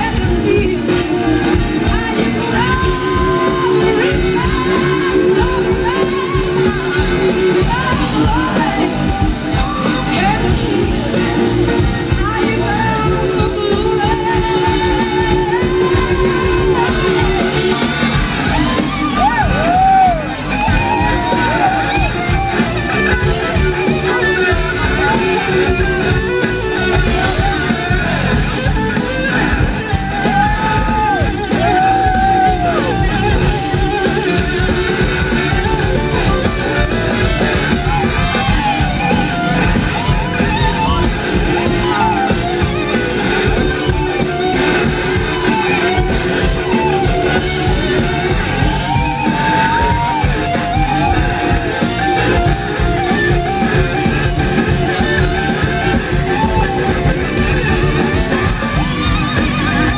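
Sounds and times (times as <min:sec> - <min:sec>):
blues-rock band playing: 0:00.0 - 0:59.9
lead electric guitar gliding notes: 0:00.0 - 0:59.9.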